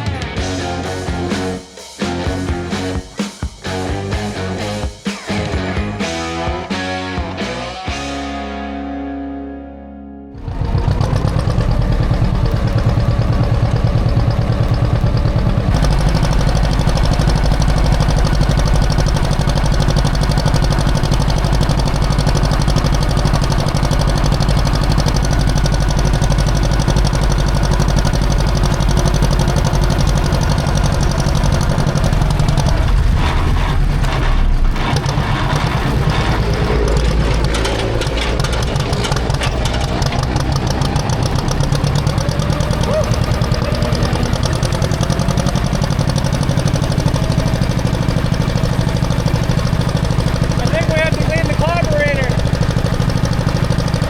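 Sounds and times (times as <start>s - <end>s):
tractor engine running: 10.4s - 54.0s.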